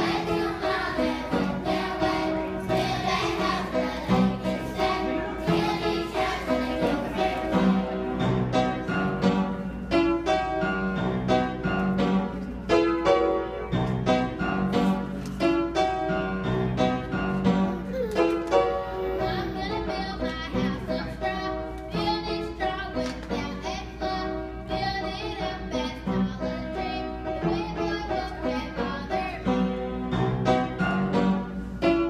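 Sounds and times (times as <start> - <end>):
instrumental piano music: 0.0 - 32.0.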